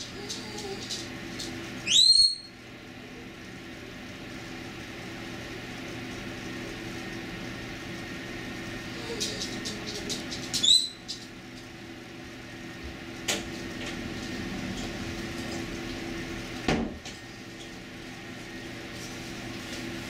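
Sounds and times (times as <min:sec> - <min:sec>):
household hum: 0:00.0 - 0:20.0.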